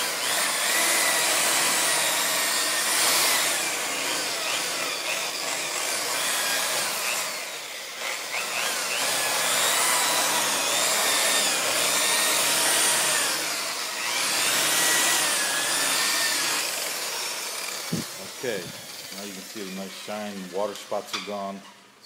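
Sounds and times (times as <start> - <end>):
electric polishing buffer whine: 0.0 - 19.8.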